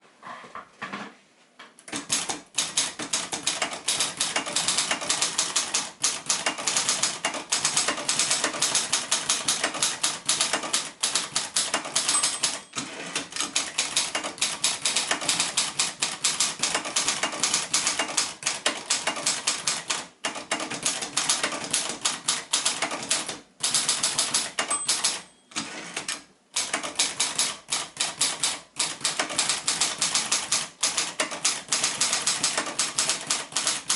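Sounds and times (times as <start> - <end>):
manual typewriter typing: 1.9 - 33.9.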